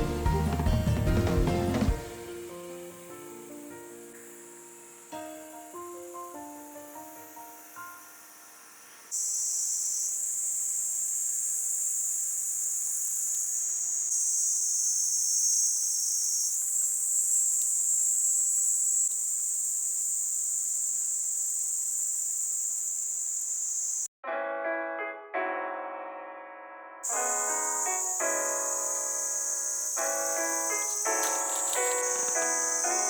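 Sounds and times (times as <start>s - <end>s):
insects chirring: 0.0s - 24.1s, 27.0s - 33.0s.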